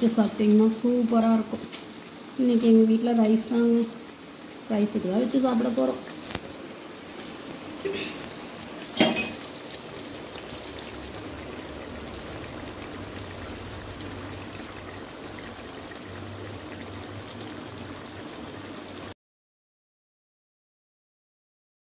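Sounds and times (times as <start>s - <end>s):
gravy pan steaming hiss: 0.0s - 19.2s.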